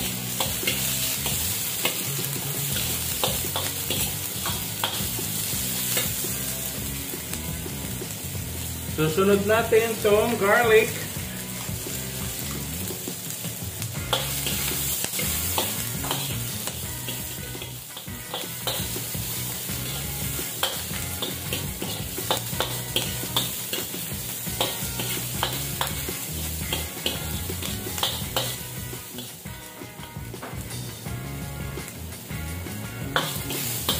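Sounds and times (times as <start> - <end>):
spatula scraping and tapping wok: 0.0 - 8.8, 10.9 - 31.1, 31.8 - 33.9
food sizzling in hot oil: 0.0 - 33.9.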